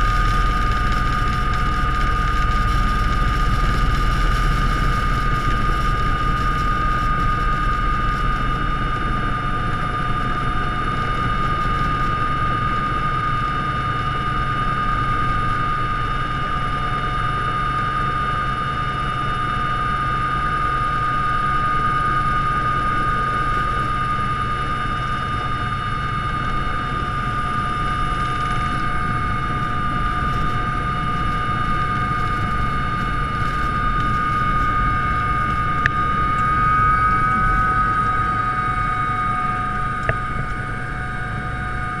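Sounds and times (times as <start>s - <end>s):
low rotor rumble: 0.0s - 42.0s
turbine engines whining: 0.0s - 42.0s.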